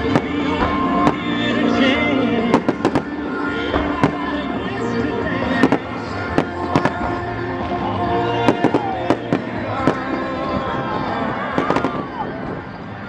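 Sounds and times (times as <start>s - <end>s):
fireworks banging: 0.0s - 13.0s
music playing: 0.0s - 13.0s.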